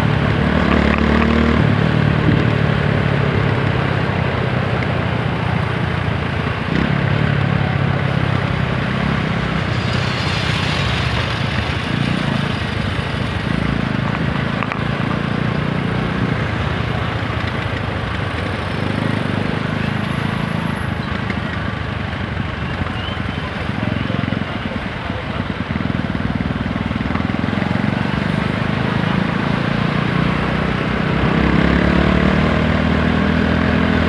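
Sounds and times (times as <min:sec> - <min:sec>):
motorcycle engine revving: 0:00.0 - 0:34.0
wind and road noise: 0:00.0 - 0:34.0.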